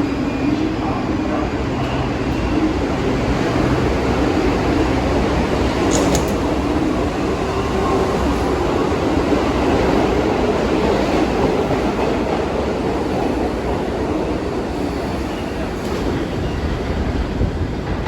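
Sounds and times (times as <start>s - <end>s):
subway train rail and wheel noise: 0.0s - 18.0s.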